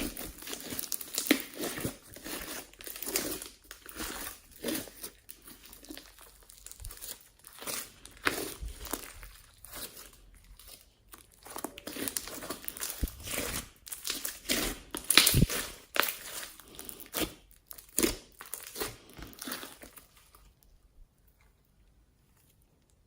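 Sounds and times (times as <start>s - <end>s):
slime crackling and popping: 0.0s - 20.6s.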